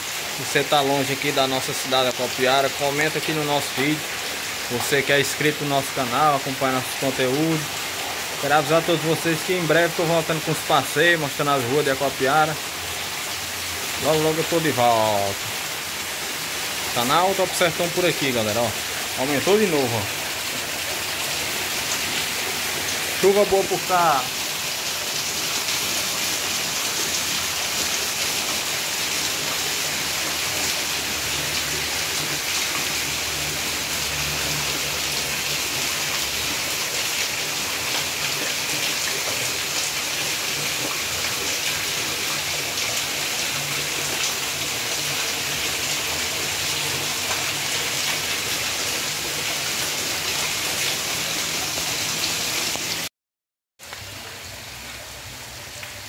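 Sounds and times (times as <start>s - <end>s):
heavy rain falling: 0.0s - 53.1s
water running off a roof: 0.0s - 53.1s.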